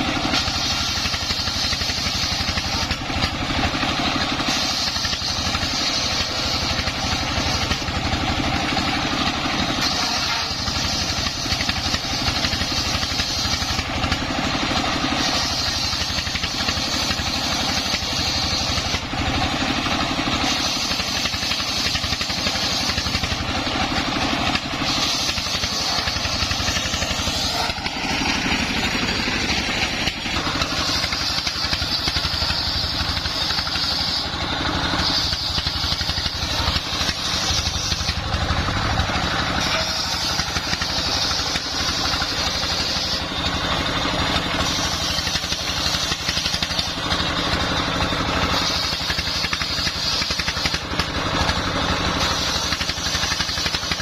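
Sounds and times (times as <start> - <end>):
diesel engine running: 0.0 - 54.0
saw blade cutting wood: 0.0 - 54.0.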